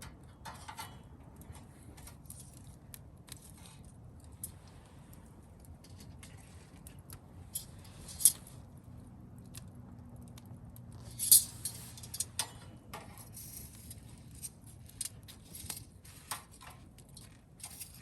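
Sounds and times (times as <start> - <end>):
campfire crackling: 0.1 - 18.0.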